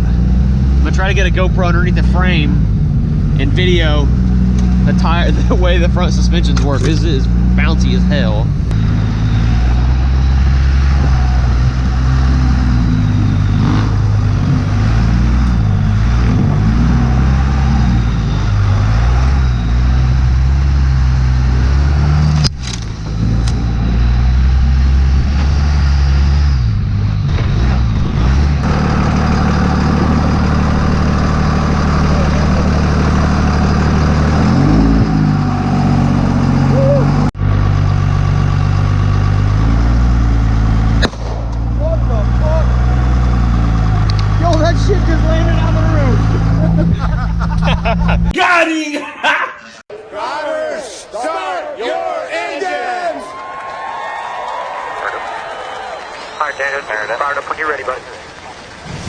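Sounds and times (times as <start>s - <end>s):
diesel truck engine revving: 0.0s - 48.4s.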